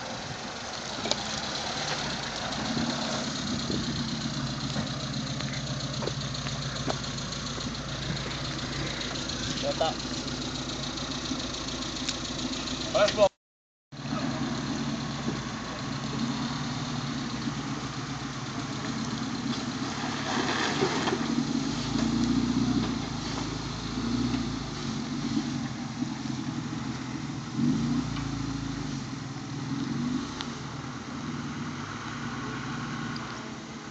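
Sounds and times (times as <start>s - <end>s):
car engine running at low revs: 0.0s - 13.3s, 13.9s - 33.9s.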